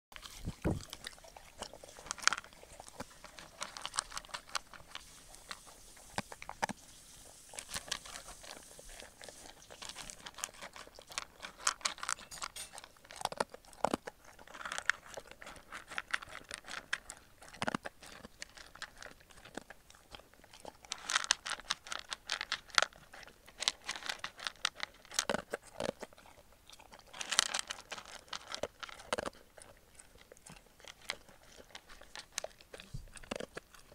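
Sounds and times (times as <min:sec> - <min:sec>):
dog crunching and chewing food: 0:00.1 - 0:33.9.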